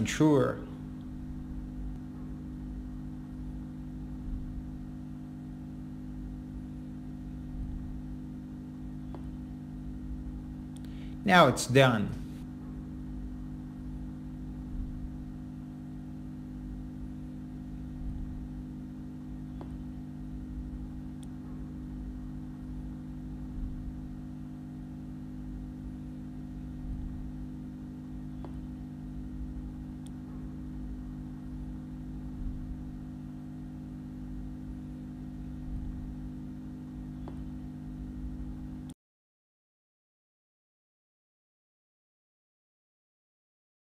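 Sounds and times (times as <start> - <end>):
low background hum: 0.0 - 39.0.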